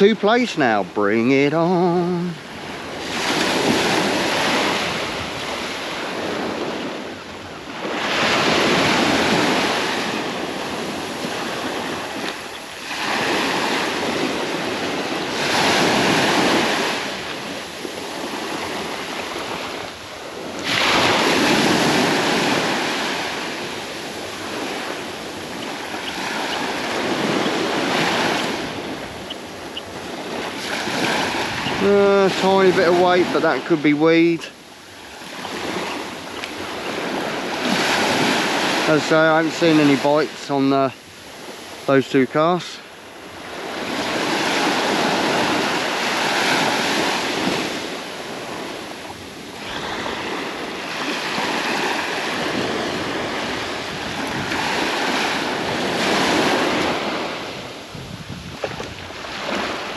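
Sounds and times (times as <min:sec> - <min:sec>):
surf breaking on beach: 0:00.0 - 0:59.9.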